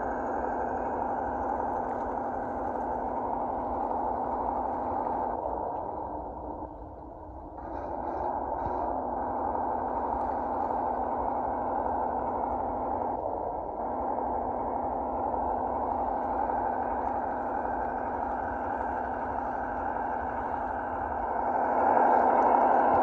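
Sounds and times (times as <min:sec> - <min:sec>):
model truck motor humming: 0:00.0 - 0:23.0.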